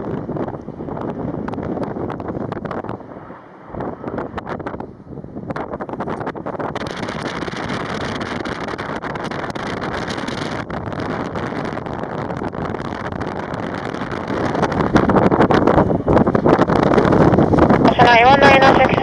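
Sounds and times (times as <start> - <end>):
jet engines at takeoff power: 0.0 - 19.0
wind buffeting microphone: 0.0 - 19.0.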